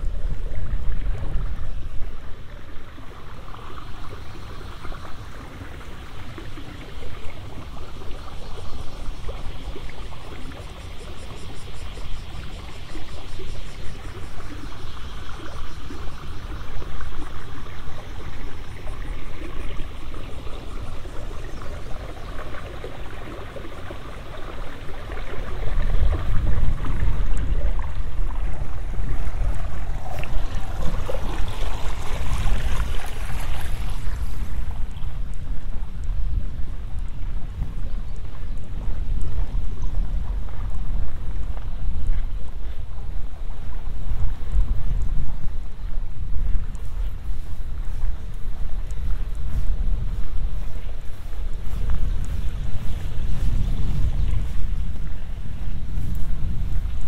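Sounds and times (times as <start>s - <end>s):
faint pulsing insect calls: 0.0s - 57.0s
trickling water: 0.0s - 57.0s
wind rumbling on microphone: 0.0s - 57.0s.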